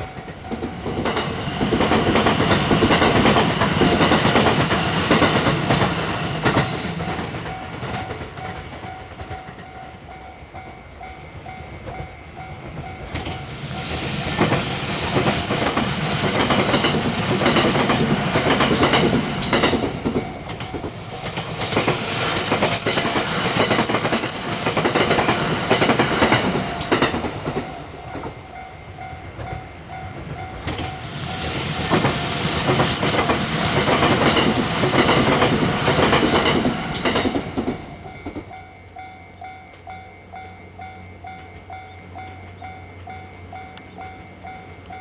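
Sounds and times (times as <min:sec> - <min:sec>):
train wheels clattering: 0:00.0 - 0:45.0.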